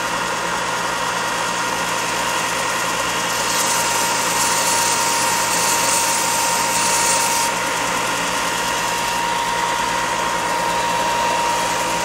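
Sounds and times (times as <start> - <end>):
belt sander motor whining: 0.8 - 12.0.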